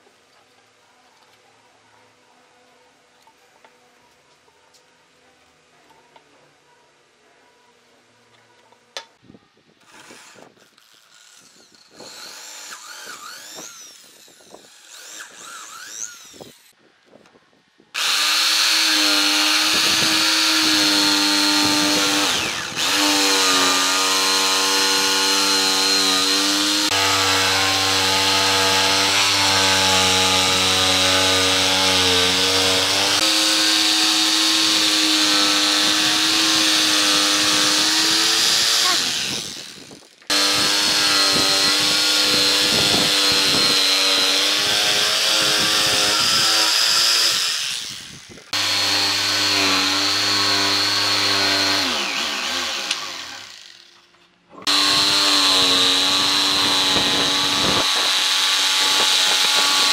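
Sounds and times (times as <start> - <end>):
power tool motor whining: 9.8 - 16.8, 18.0 - 59.9.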